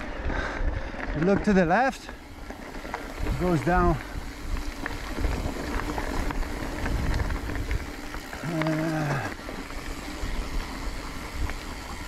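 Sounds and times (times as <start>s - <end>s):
bike clicks and rattles: 0.0s - 12.0s
bike tyres on gravel: 0.0s - 12.0s.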